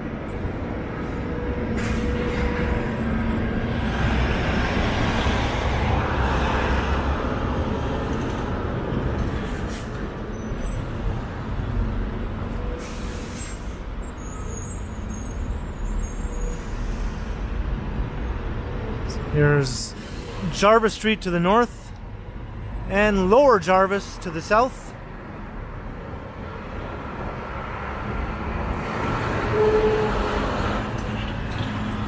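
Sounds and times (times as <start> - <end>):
heavy vehicle rumbling: 0.0 - 32.0
street traffic: 0.0 - 32.0.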